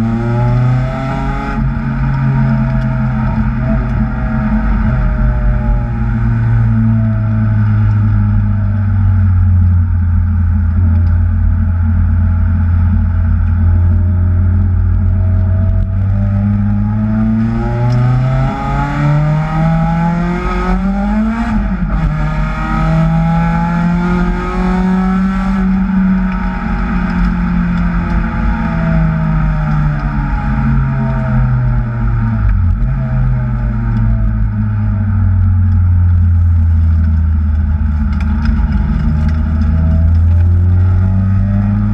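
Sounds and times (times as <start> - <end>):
supercharged car engine revving: 0.0 - 41.9.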